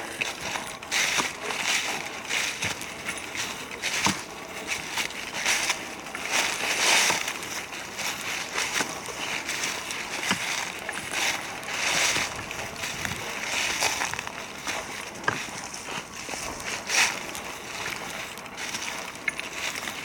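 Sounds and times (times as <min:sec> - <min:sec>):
footsteps crunching dry leaves: 0:00.0 - 0:20.0.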